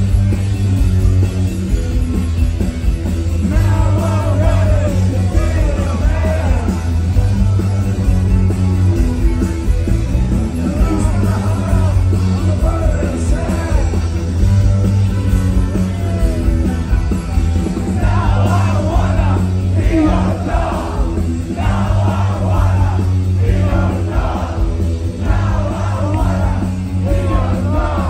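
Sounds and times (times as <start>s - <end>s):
heavy bass line: 0.0s - 28.0s
live rock music with orchestra: 0.0s - 28.0s.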